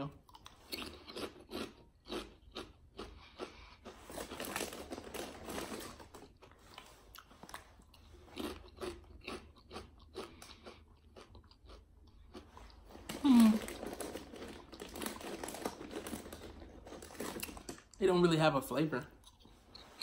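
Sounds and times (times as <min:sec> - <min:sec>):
potato chips crunching: 0:00.0 - 0:20.0.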